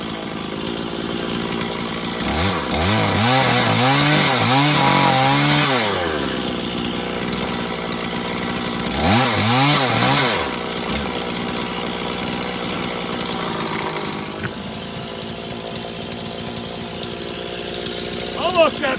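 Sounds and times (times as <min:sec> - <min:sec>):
chainsaw revving and idling: 0:00.0 - 0:18.9.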